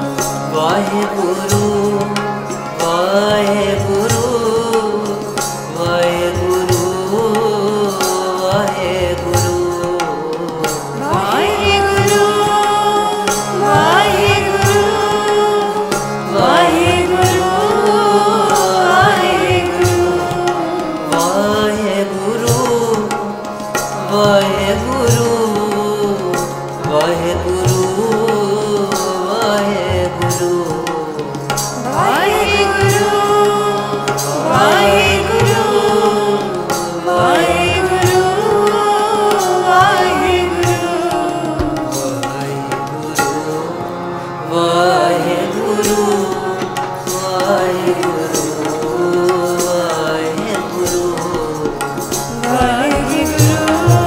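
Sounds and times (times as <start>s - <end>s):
harmonium: 0.0s - 54.0s
men and women singing devotionally: 0.0s - 54.0s
tabla beat: 0.0s - 54.0s.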